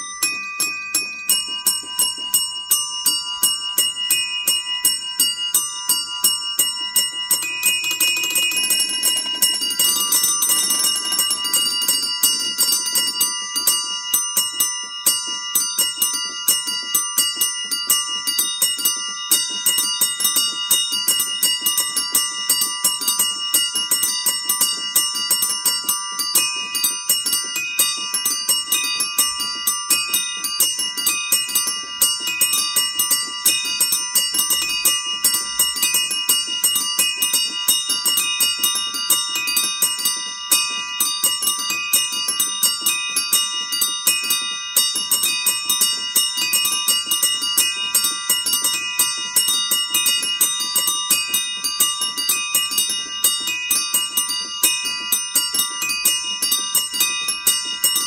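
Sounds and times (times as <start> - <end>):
small bells struck rapidly: 0.0 - 58.0.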